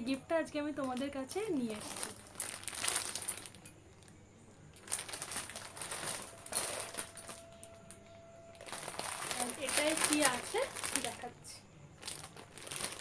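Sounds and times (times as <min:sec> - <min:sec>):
plastic packaging crinkling: 0:00.8 - 0:13.0.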